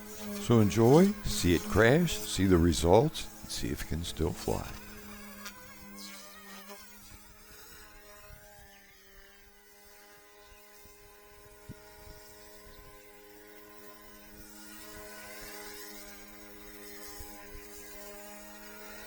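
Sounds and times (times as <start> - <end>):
toy helicopter buzzing hum: 0.0 - 19.0.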